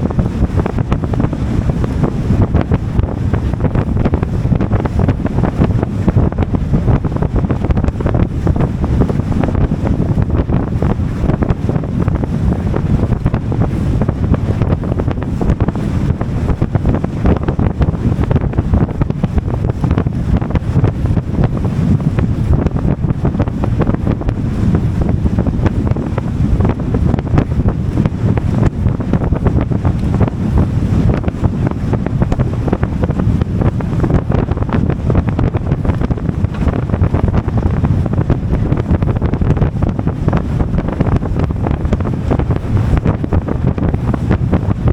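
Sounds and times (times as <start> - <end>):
water rushing against hull: 0.0 - 44.9
wind buffeting microphone: 0.0 - 44.9.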